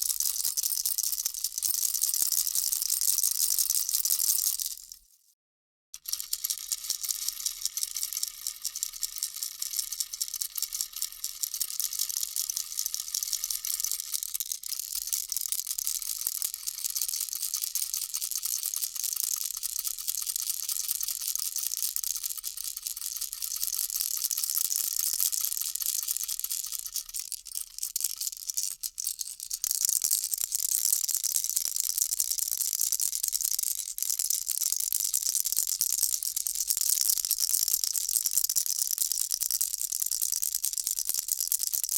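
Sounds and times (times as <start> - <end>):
baby rattle shaking: 0.0 - 5.0, 6.0 - 41.9.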